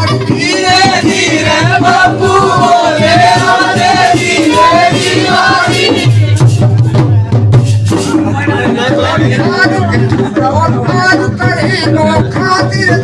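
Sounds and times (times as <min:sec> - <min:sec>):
folk singing: 0:00.0 - 0:07.1, 0:08.0 - 0:13.0
percussion strokes: 0:00.0 - 0:13.0.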